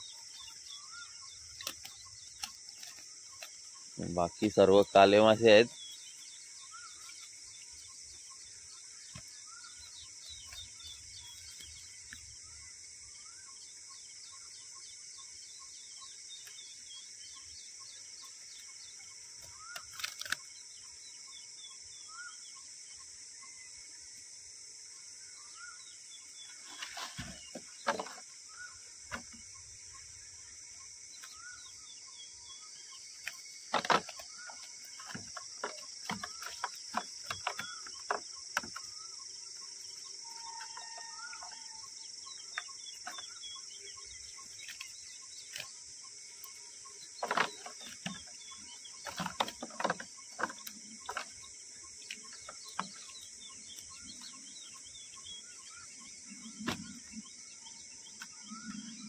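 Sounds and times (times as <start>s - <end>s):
birds chirping and calling: 0.0s - 23.6s, 25.2s - 59.0s
steady high-pitched hiss: 0.0s - 59.0s.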